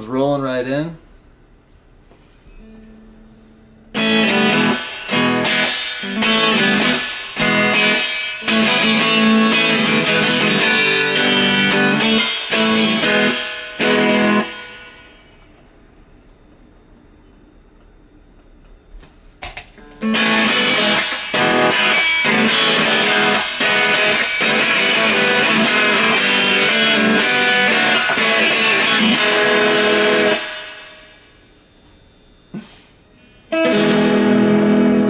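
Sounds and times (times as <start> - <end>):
faint amp hum: 0.0 - 35.0
electric guitar chords: 2.6 - 15.8, 19.5 - 35.0.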